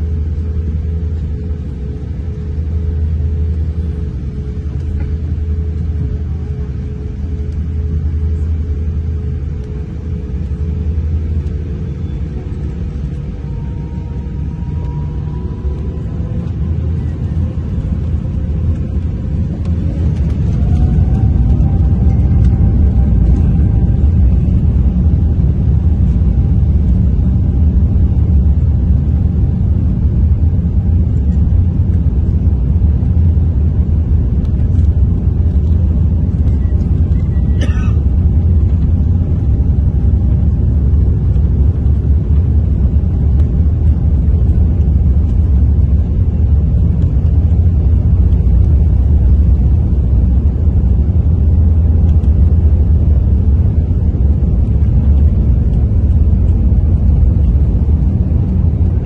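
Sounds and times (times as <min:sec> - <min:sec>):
aircraft cabin low rumble: 0:00.0 - 0:59.0.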